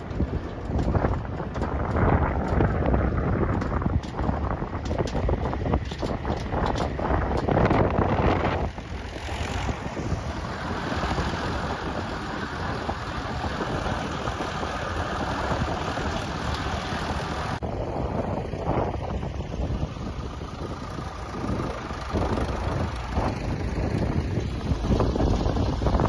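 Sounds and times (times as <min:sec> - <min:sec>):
tractor engines passing: 0:00.0 - 0:26.0
wind on microphone: 0:00.0 - 0:26.0.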